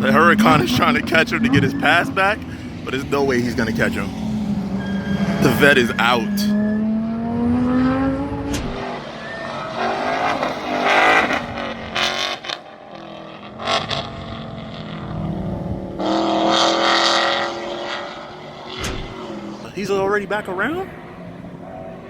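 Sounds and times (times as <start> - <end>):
sports cars passing at speed: 0.0 - 22.0.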